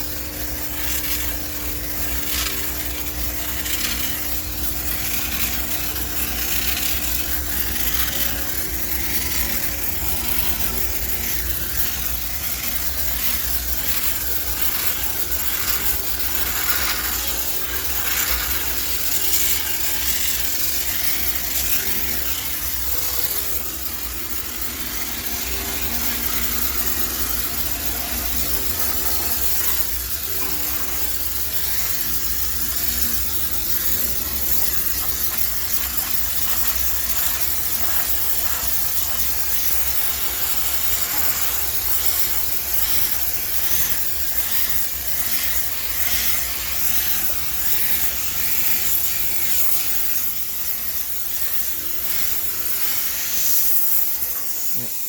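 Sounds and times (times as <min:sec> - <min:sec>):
steam cleaner hissing: 0:00.0 - 0:55.0.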